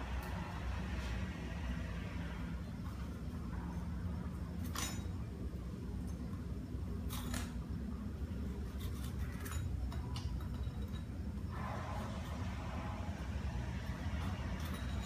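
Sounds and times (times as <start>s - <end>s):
steady low rumble: 0.0s - 8.8s, 10.4s - 15.0s.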